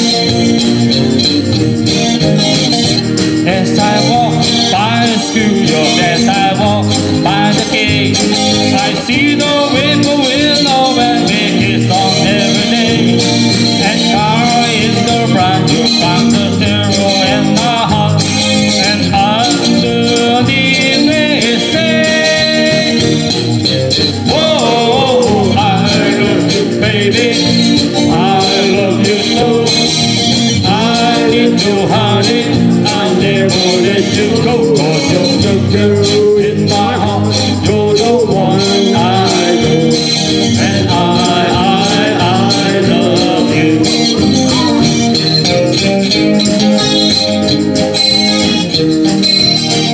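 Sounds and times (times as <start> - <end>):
upbeat pop song over loudspeakers: 0.0 - 49.9.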